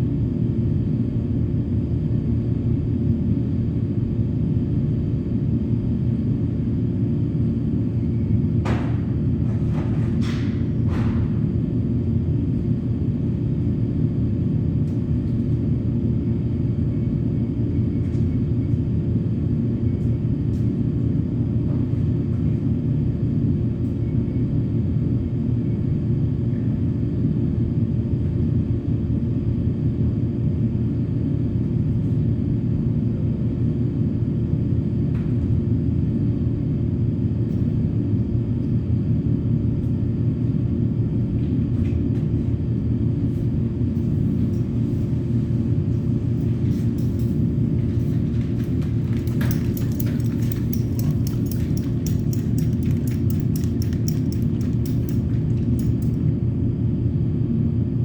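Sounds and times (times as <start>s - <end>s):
low mechanical rumble with hum: 0.0s - 58.0s.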